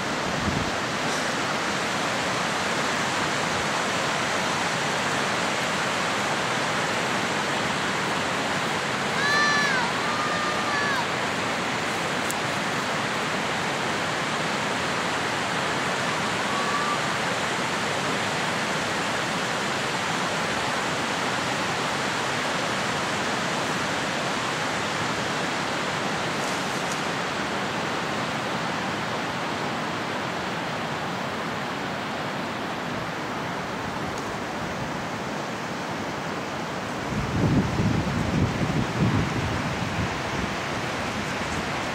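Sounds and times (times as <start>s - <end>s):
river rushing over rocks: 0.0s - 41.9s.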